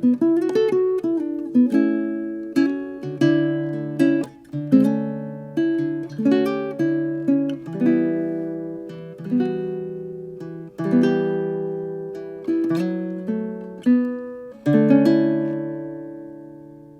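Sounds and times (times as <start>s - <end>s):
ukulele chords: 0.0s - 16.9s.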